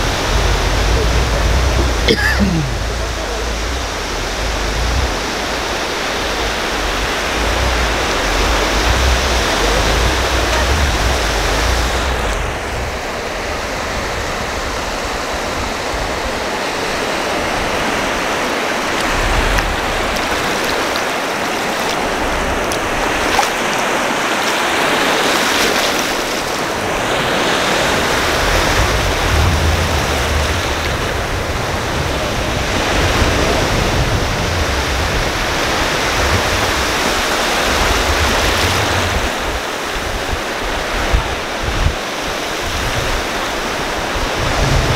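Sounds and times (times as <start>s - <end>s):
ocean waves breaking on beach: 0.0s - 44.9s
wind rumbling on microphone: 0.0s - 44.9s.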